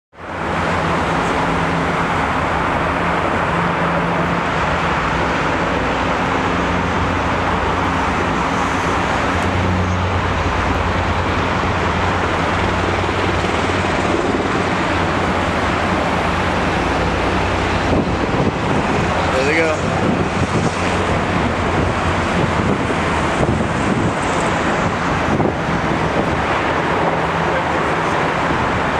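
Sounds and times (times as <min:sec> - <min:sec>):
helicopter rotor and engine: 0:00.3 - 0:28.9.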